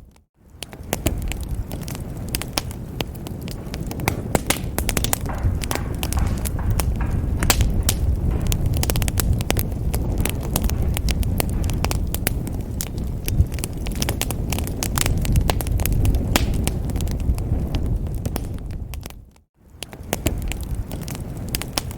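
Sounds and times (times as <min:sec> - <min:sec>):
fire crackling and popping: 0:00.0 - 0:21.9
fire flames rumbling: 0:00.0 - 0:21.9.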